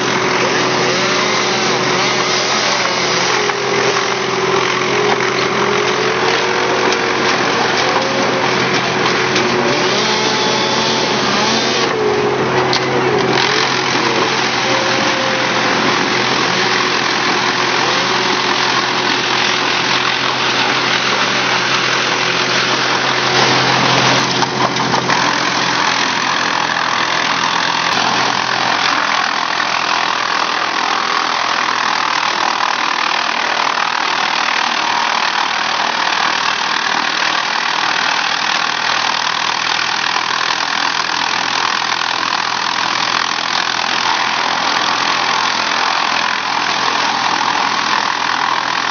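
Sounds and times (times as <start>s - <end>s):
wood chipper running: 0.0s - 48.9s.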